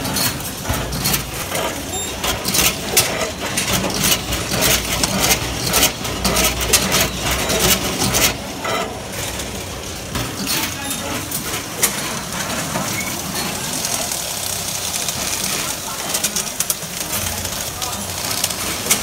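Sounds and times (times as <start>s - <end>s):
machine clicks and clatter: 0.0s - 19.0s.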